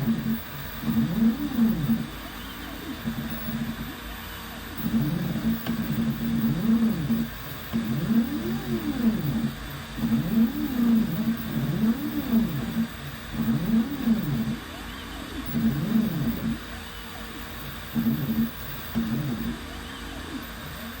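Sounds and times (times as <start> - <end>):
stepper motors whining: 0.0 - 4.0, 4.8 - 21.0.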